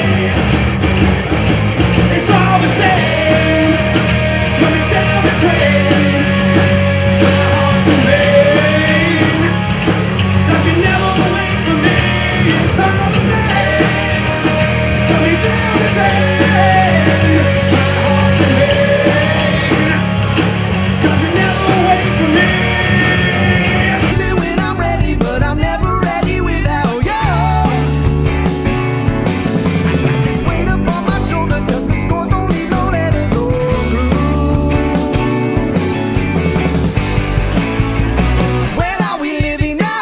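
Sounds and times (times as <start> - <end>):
rock music with singing: 0.0 - 40.0.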